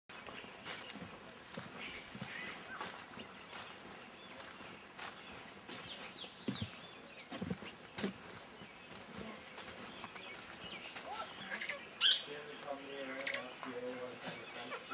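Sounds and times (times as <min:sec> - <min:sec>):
footsteps on dirt path: 0:00.1 - 0:11.6, 0:13.6 - 0:14.9
birds chirping: 0:00.1 - 0:14.9.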